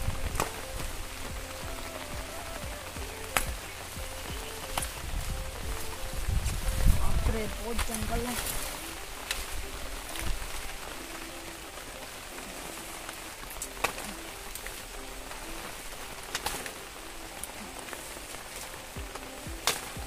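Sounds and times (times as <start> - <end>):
sharp snaps of leaves: 0.0 - 20.0
wet leaves rustling: 0.0 - 20.0.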